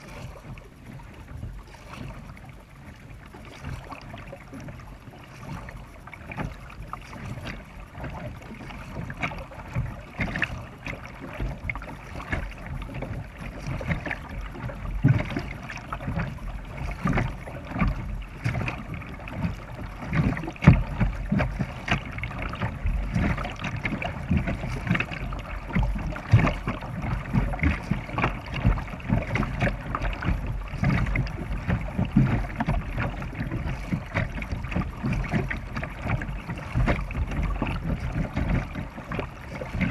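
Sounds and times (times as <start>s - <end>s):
kayak paddle splashing water: 0.0s - 39.9s
water sloshing along hull: 0.0s - 39.9s.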